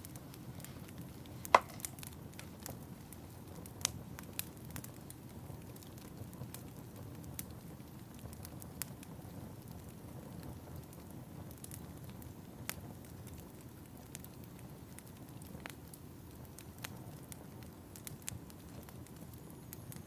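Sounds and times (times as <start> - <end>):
low rumble of flames: 0.0 - 20.0
sharp pops of fire: 0.0 - 20.0
wood fire crackling: 0.0 - 20.0.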